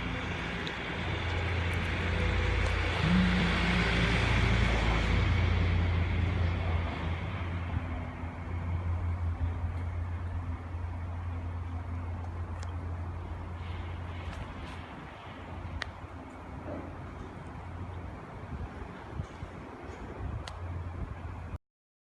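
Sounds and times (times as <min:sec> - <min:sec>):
car engine hum: 0:00.0 - 0:19.1.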